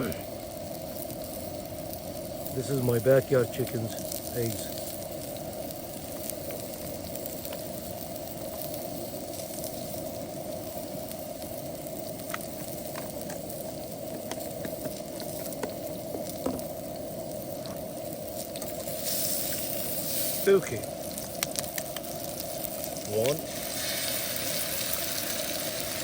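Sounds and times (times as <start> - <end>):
sausage sizzling in a pan: 0.0 - 26.0.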